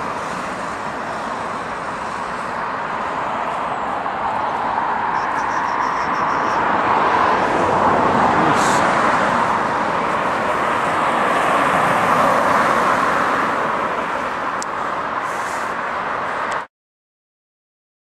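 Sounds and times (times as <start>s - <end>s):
road traffic noise: 0.0s - 16.7s.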